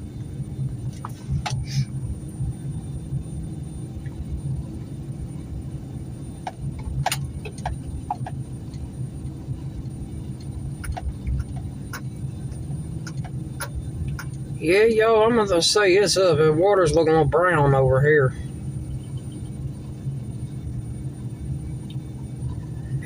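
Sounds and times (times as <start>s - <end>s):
vehicle driving rumble: 0.0s - 23.0s.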